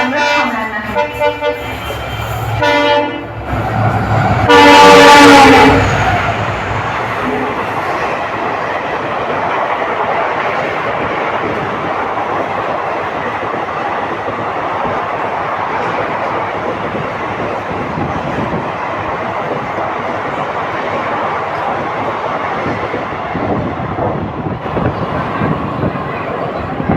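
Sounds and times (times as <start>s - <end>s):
train rolling rumble: 0.0s - 26.9s.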